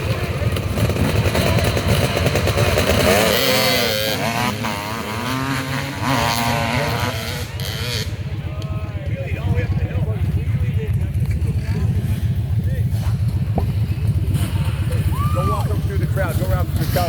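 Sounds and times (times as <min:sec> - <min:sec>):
motorcycle engine revving hard: 0:00.0 - 0:17.0.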